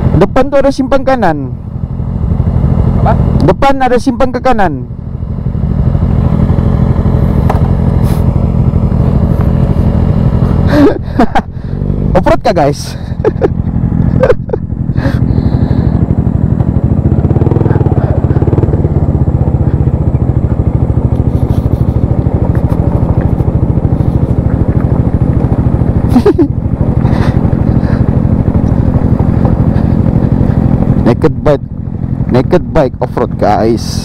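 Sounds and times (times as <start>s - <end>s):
scooter engine running: 1.3s - 34.0s.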